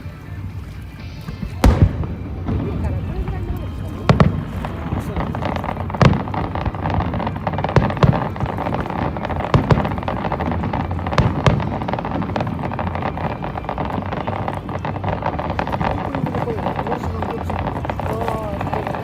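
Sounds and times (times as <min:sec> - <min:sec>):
fireworks crackling: 0:00.0 - 0:19.0
fireworks pops: 0:01.3 - 0:19.0.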